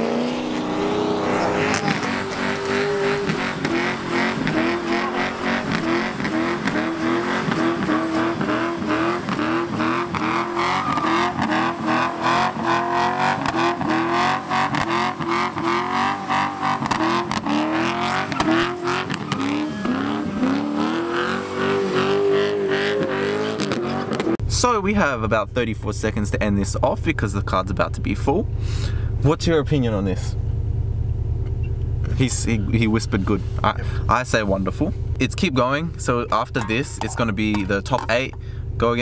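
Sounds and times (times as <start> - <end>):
car engine at high revs: 0.0 - 24.7, 25.3 - 39.0.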